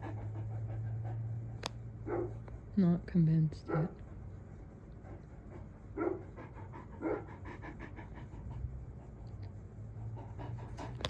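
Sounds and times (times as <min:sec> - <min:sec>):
dog panting: 0:00.0 - 0:02.4, 0:03.6 - 0:11.0.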